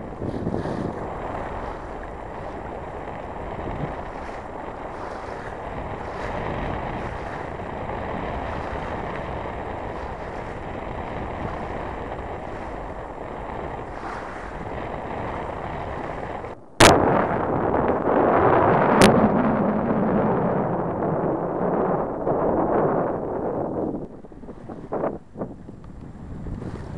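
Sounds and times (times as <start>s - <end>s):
wind and water rushing: 0.0s - 26.9s
wind buffeting microphone: 0.0s - 26.9s.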